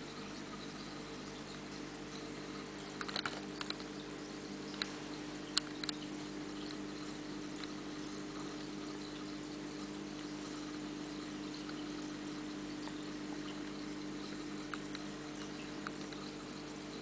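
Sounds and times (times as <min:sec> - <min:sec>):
aquarium pump humming: 0:00.0 - 0:17.0
bubbling water: 0:00.0 - 0:17.0
faint ticks: 0:00.1 - 0:17.0.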